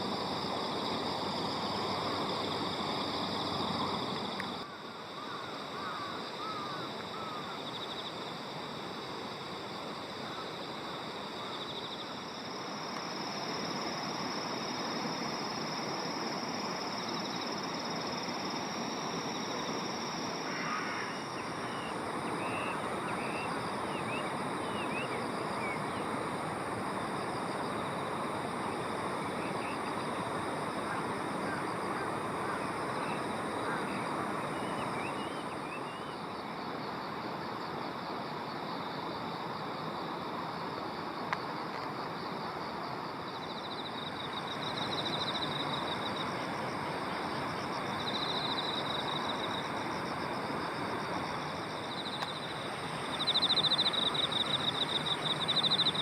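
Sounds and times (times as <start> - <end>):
insects trilling: 0.0 - 56.0
rushing outdoor noise: 0.0 - 56.0.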